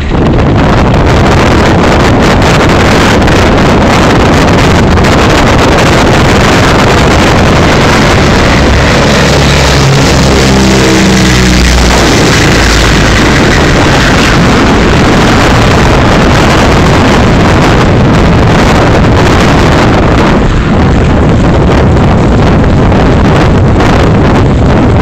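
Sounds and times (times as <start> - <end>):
aircraft engines droning: 0.0 - 25.0
motorboat running: 0.0 - 25.0
wind buffeting microphone: 0.0 - 25.0.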